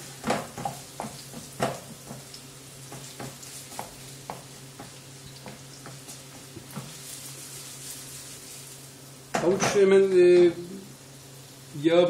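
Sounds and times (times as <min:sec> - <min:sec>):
carrots sizzling in frying pan: 0:00.0 - 0:12.0.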